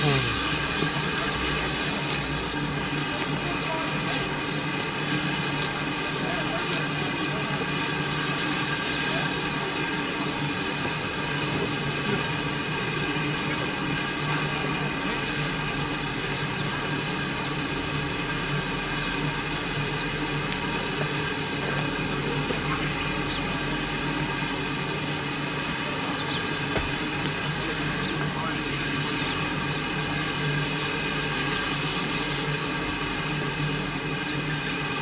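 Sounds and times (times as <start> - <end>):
steam hissing: 0.0 - 35.0.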